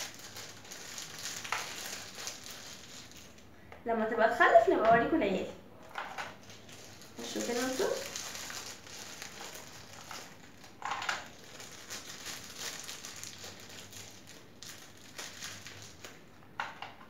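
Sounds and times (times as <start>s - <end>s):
plastic rustling and crinkling: 0.0s - 3.5s, 5.8s - 16.9s.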